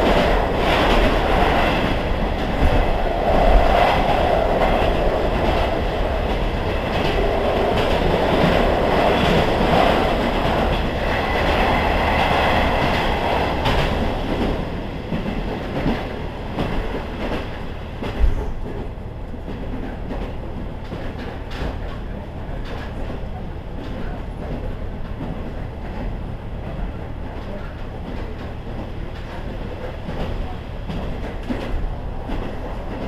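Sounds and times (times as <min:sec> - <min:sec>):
clacks over rail joints: 0:00.0 - 0:33.0
train wheels rumbling: 0:00.0 - 0:33.0.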